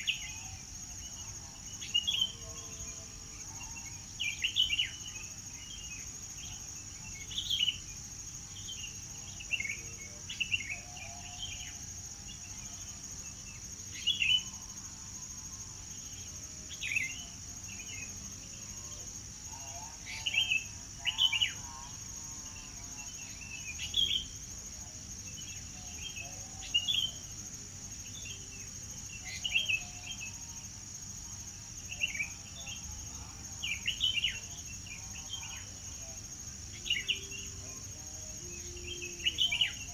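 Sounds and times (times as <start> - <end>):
songbirds chirping: 0.0 - 39.9
high-pitched insect drone: 3.4 - 39.9.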